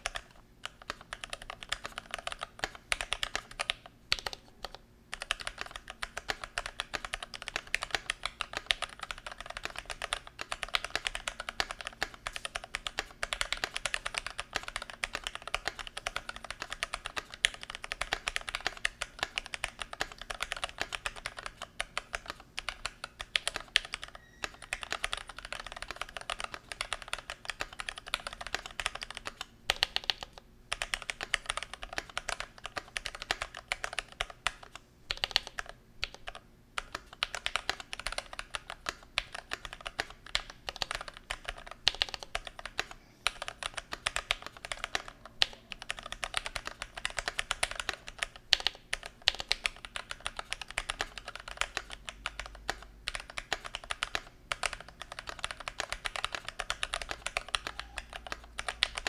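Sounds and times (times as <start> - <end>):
typing on mechanical keyboard: 0.0 - 59.0.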